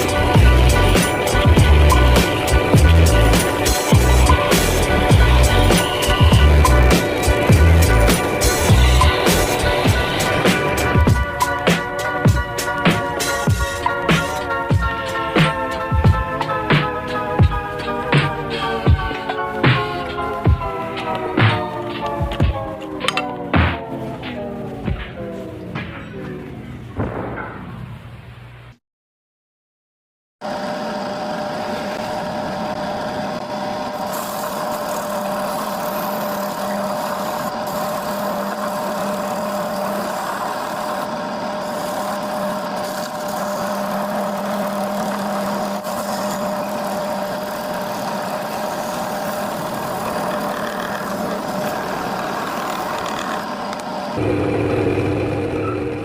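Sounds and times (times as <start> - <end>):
drum sander motor whining: 0.0 - 25.7, 30.4 - 56.0.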